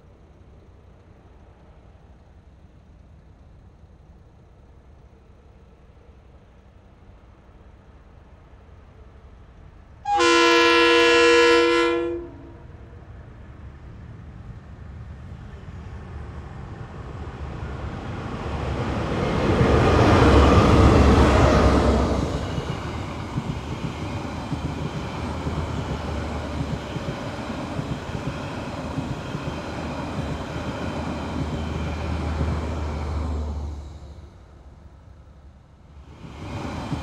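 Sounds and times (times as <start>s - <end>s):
passing diesel train rumbling: 7.1s - 37.0s.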